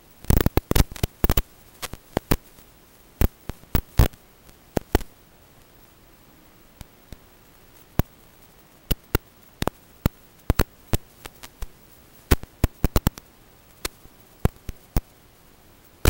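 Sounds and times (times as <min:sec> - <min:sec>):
sharp static clicks and pops: 0:00.0 - 0:16.0
static hiss: 0:00.0 - 0:16.0.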